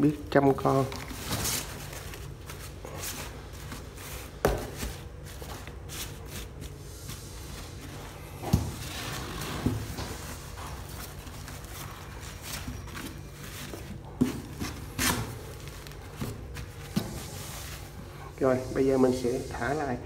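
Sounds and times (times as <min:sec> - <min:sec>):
underpads rustling and crinkling: 0:00.3 - 0:18.4.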